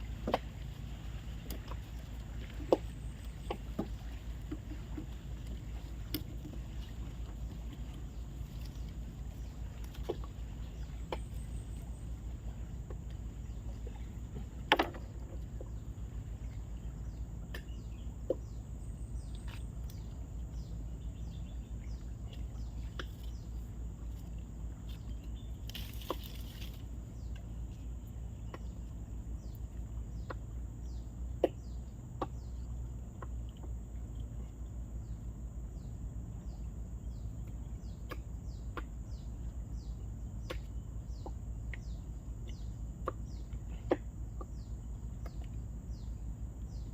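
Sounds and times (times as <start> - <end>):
low hum: 0.0 - 46.9.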